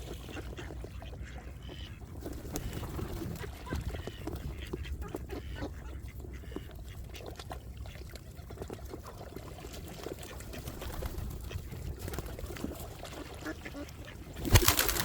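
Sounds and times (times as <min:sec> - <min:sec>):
ducks quacking and geese honking: 0:00.0 - 0:08.4, 0:09.9 - 0:15.0.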